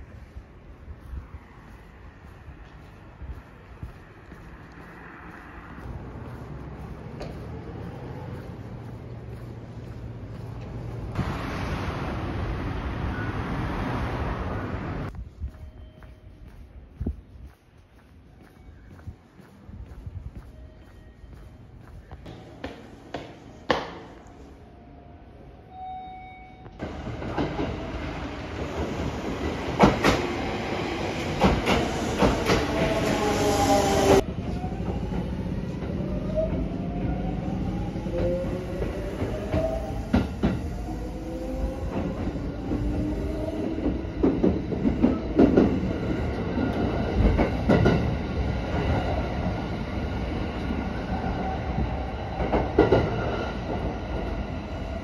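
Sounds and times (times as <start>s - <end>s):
train rumble: 0.0s - 25.6s, 26.6s - 55.0s.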